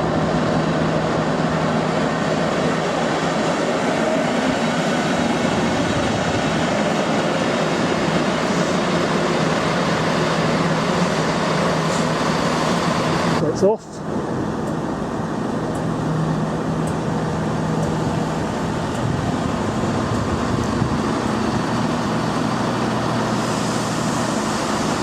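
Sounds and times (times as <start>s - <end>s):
train running with low hum: 0.0s - 25.0s.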